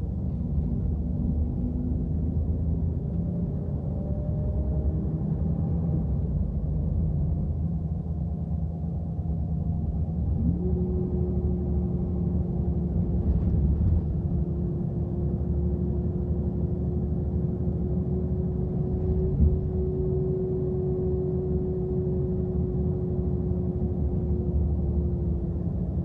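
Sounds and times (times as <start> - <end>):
bus engine and road rumble: 0.0 - 26.0.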